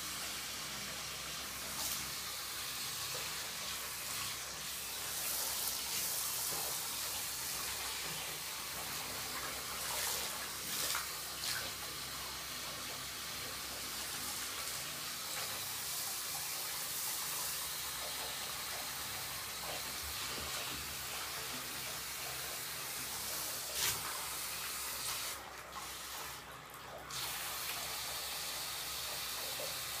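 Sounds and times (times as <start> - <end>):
shower head spraying water: 0.0 - 26.4.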